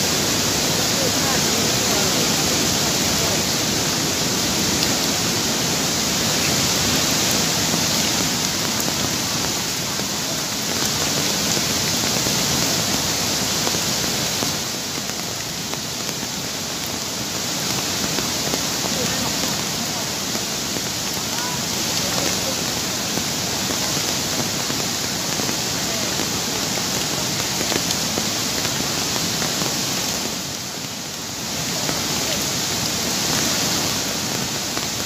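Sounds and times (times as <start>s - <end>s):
heavy rain: 0.0s - 35.0s
river rushing: 0.0s - 35.0s.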